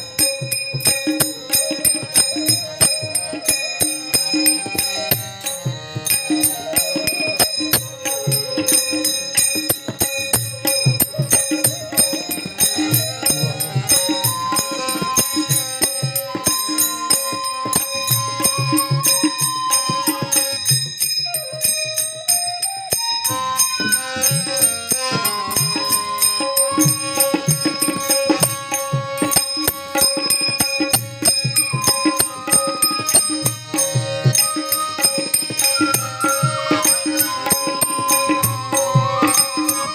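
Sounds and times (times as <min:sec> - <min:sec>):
hand cymbals clashing: 0:00.0 - 0:39.9.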